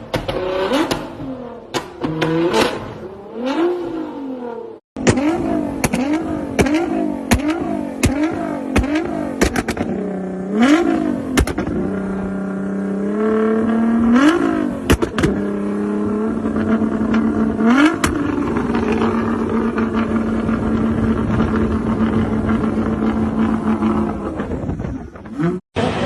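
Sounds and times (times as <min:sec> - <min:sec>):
car engine revving: 0:00.0 - 0:26.0
exhaust cracks: 0:05.0 - 0:26.0.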